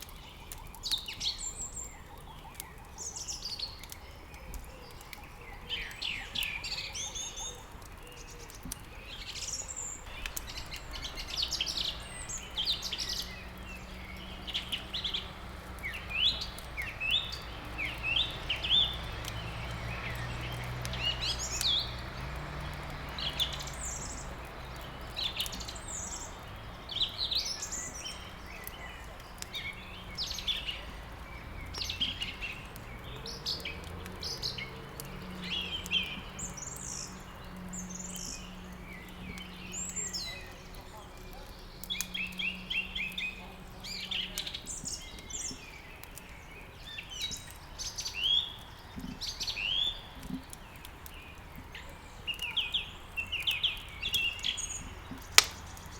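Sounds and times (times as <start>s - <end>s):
songbirds chirping and singing: 0.0s - 55.9s.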